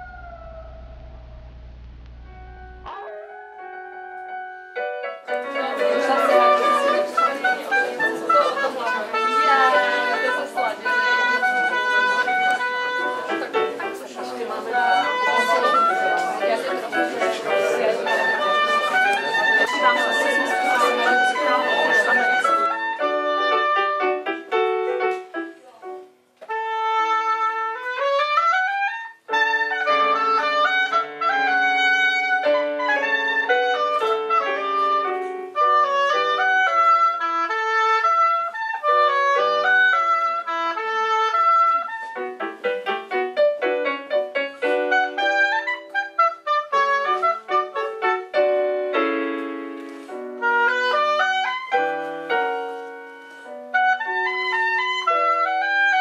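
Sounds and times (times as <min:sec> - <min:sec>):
clarinet melody: 0:00.0 - 0:56.0
digital piano accompaniment: 0:02.2 - 0:56.0.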